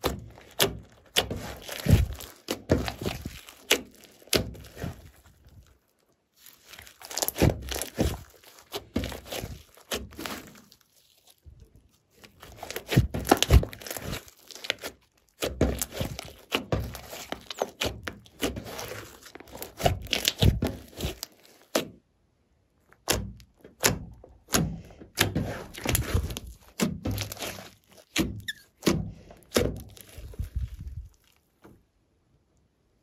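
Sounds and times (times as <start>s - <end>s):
hands squelching slime: 0.0s - 22.1s, 22.7s - 31.6s.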